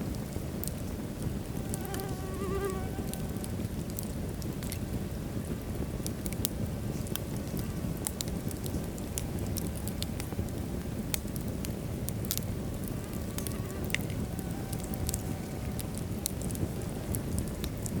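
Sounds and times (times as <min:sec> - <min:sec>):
fire flames rumbling: 0:00.0 - 0:18.0
wood crackling and popping: 0:00.0 - 0:18.0.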